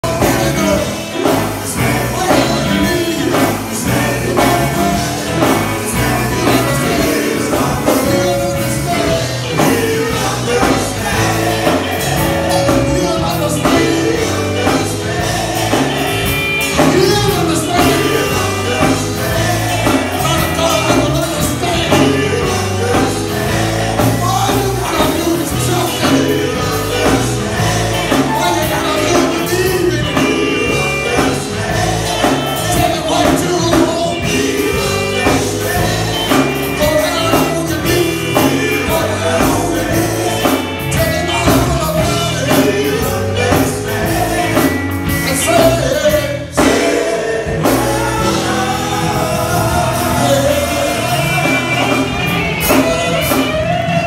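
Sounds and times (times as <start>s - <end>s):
drums: 0.0s - 54.0s
electric guitar: 0.0s - 54.0s
men singing into microphones: 0.0s - 54.0s.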